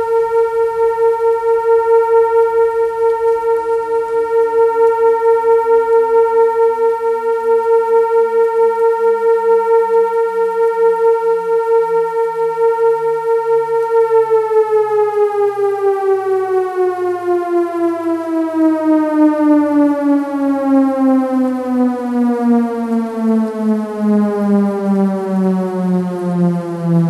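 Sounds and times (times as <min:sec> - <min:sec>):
synthesized siren winding down: 0:00.0 - 0:27.0.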